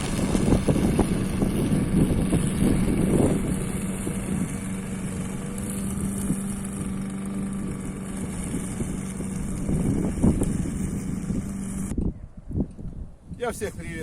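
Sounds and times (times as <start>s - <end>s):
mower blade chopping leaves: 0.0s - 11.9s
lawn mower engine running: 0.0s - 12.0s.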